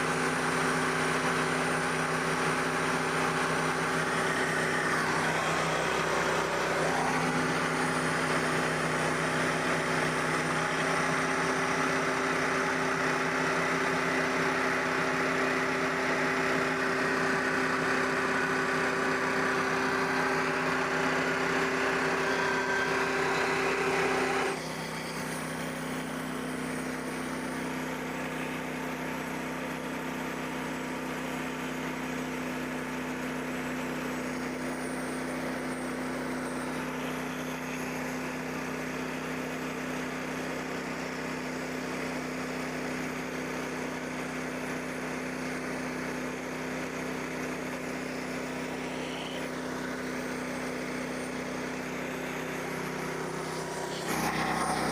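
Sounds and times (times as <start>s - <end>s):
band sawmill cutting: 0.0s - 54.9s
small gasoline engine running: 0.0s - 54.9s.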